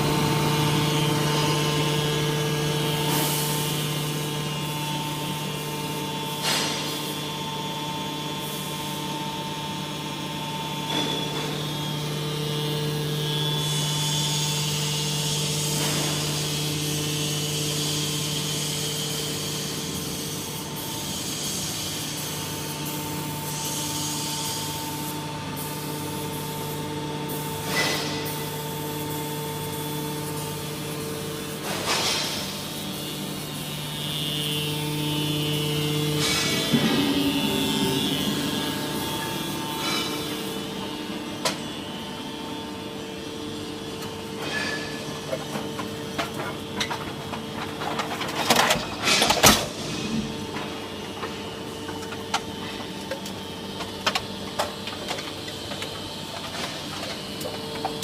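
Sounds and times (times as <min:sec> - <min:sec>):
hydraulic pump motor hum: 0:00.0 - 0:19.9, 0:27.1 - 0:58.0.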